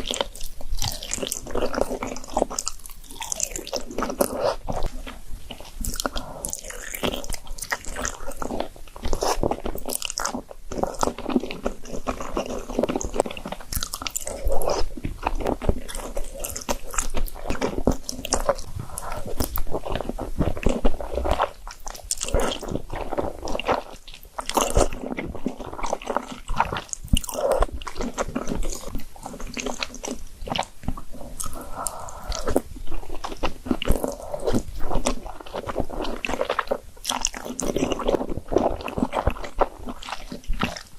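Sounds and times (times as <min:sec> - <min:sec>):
person chewing and biting food: 0:00.0 - 0:40.9.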